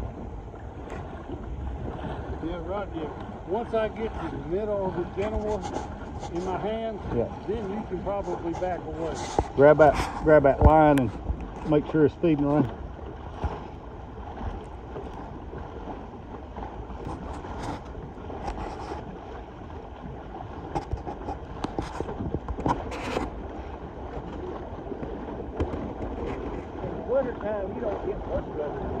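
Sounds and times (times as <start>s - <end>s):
water washing past boat: 0.0s - 29.0s
wind rumbling on microphone: 0.0s - 29.0s.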